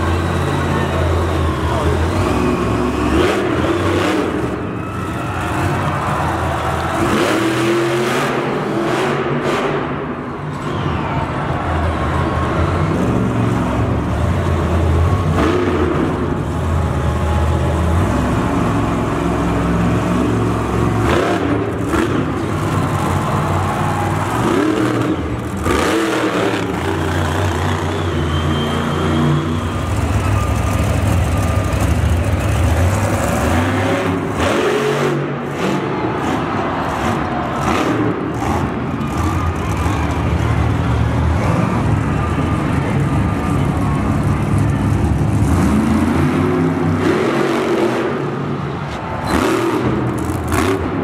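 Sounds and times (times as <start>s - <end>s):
truck engine revving: 0.0s - 10.8s, 11.6s - 51.0s.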